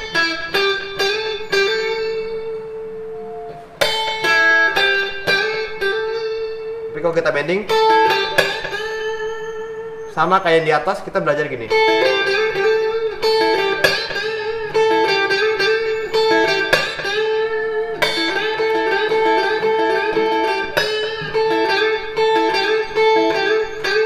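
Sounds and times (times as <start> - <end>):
electric guitar blues lick: 0.0 - 24.0.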